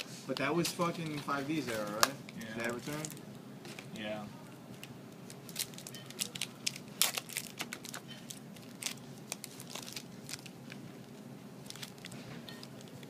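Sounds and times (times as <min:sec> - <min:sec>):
foil wrappers crinkling: 0:00.0 - 0:03.9, 0:04.8 - 0:13.0.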